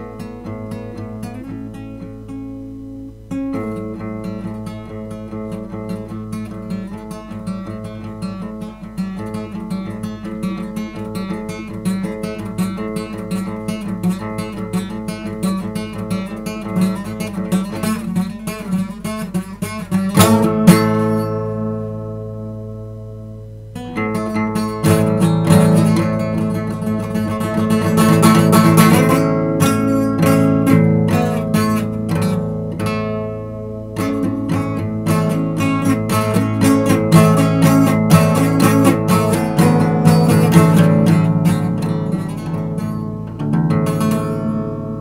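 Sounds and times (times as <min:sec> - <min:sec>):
acoustic guitar plucked notes: 0:00.0 - 0:45.0
strummed guitar chord: 0:00.0 - 0:45.0.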